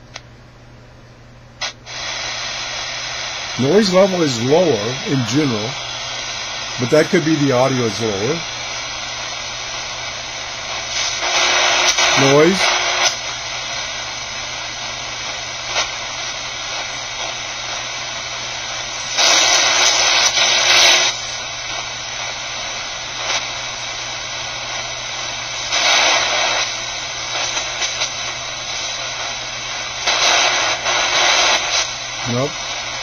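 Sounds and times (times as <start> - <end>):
radio static hissing: 1.6 - 33.0.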